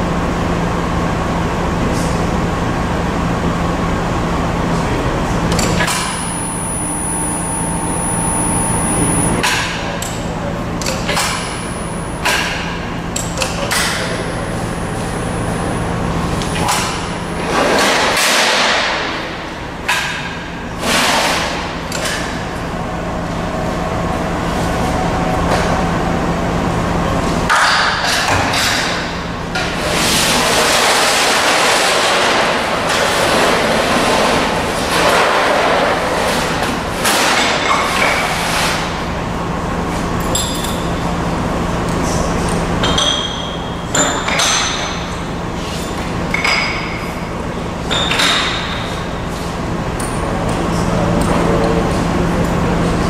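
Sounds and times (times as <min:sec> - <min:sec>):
folding machine humming: 0:00.0 - 0:53.0.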